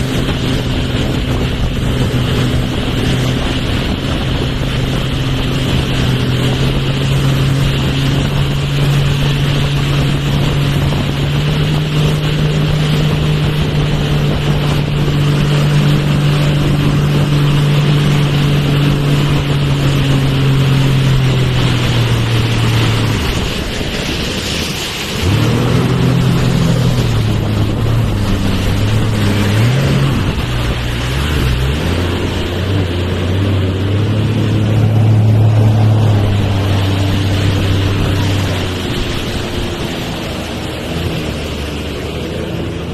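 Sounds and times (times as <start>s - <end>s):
motorboat engine running: 0.0s - 42.9s
water noise: 0.0s - 42.9s
wind on microphone: 0.0s - 42.9s.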